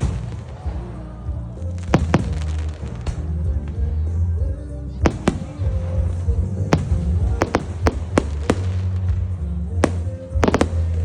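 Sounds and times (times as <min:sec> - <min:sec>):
fireworks bangs: 0:00.0 - 0:01.0, 0:01.7 - 0:04.0, 0:05.0 - 0:11.0
music with heavy bass: 0:00.0 - 0:11.0.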